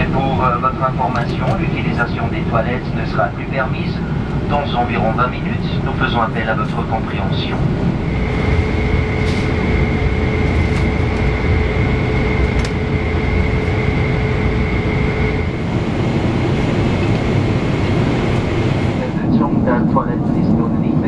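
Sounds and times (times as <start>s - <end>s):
aircraft cabin rumble: 0.0s - 21.0s.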